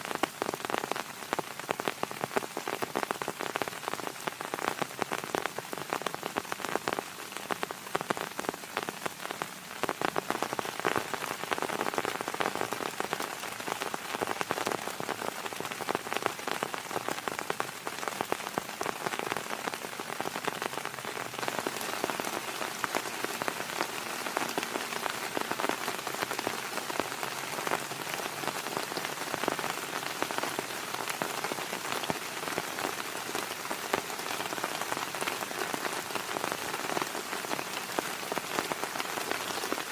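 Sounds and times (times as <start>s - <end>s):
heavy rain on a surface: 0.0s - 39.9s.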